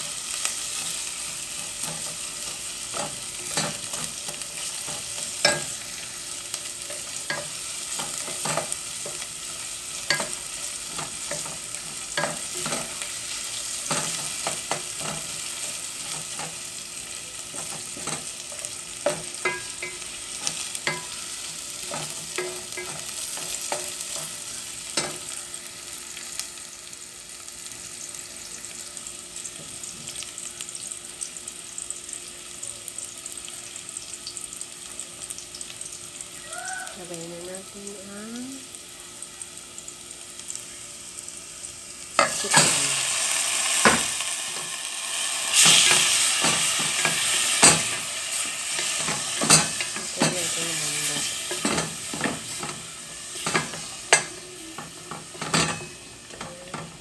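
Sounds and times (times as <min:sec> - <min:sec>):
onion sizzling in oil: 0:00.0 - 0:57.0.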